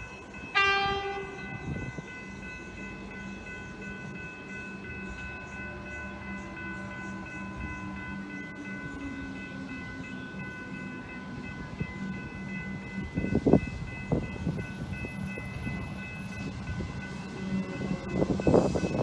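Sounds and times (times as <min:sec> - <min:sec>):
electric train whine: 0:00.0 - 0:19.0.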